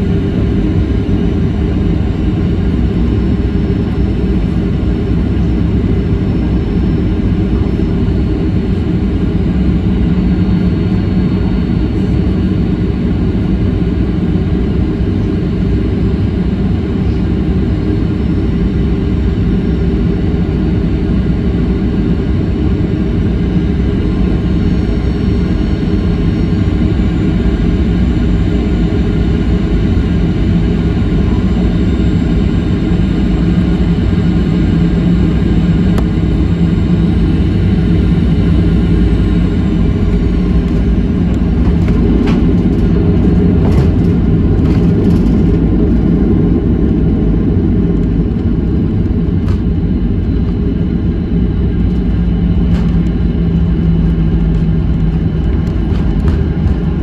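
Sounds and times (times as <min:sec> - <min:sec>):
jet engines and airflow rushing: 0:00.0 - 0:57.0.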